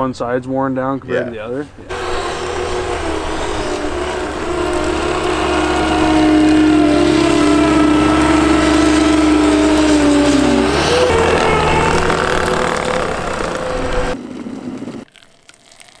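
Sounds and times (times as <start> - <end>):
track loader diesel engine: 1.8 - 15.1.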